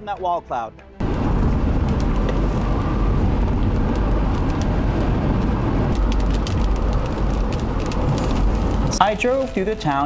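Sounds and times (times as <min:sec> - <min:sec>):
car road and engine rumble: 0:01.0 - 0:10.0
drops ticking on windshield: 0:01.8 - 0:09.9.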